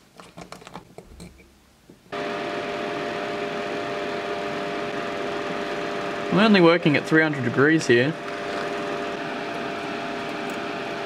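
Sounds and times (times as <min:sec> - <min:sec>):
fan noise with humming tones: 0:00.9 - 0:11.0.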